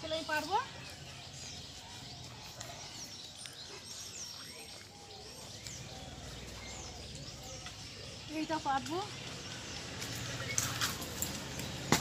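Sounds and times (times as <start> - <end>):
birds chirping: 0.0 - 12.0
low outdoor background noise: 0.0 - 12.0.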